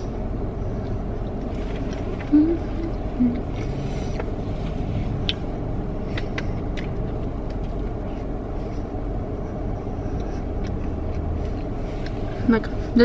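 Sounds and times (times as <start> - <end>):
low vehicle rumble in car: 0.0 - 13.0.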